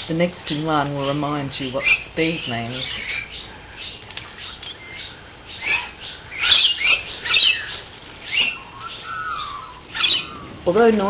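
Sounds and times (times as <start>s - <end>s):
birds giving harsh scolding calls: 0.0s - 11.0s.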